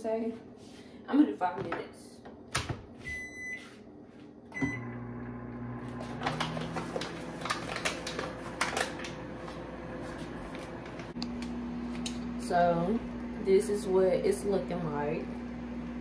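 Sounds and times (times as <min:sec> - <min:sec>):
microwave oven humming: 0:03.0 - 0:16.0.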